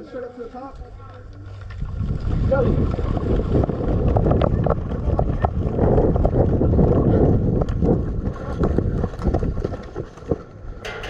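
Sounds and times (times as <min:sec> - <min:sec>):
wind rumble on microphone: 0:00.7 - 0:11.0.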